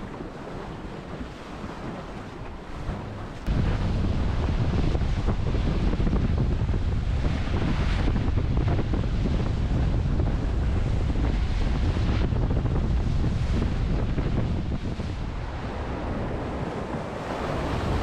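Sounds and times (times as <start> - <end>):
sea water rushing: 0.0 - 18.0
wind buffeting microphone: 0.0 - 18.0.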